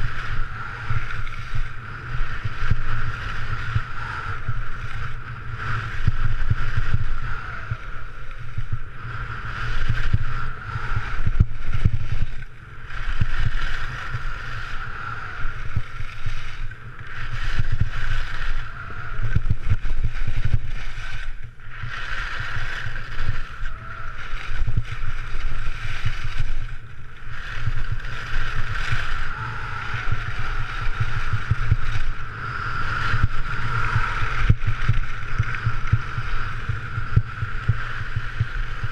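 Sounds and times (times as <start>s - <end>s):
skis scraping over snow: 0.0s - 38.9s
wind rumbling on microphone: 0.0s - 38.9s.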